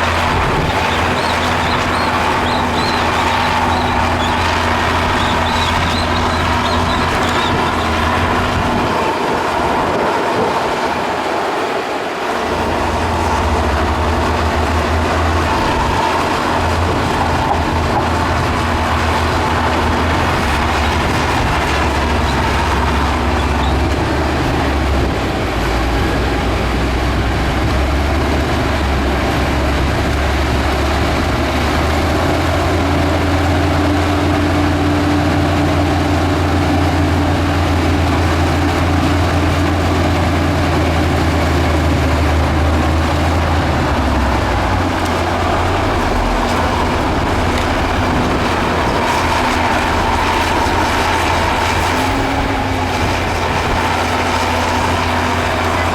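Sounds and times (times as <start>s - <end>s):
high steady whine: 0.0s - 26.6s, 28.6s - 55.9s
heavy machinery diesel engine: 0.0s - 55.9s.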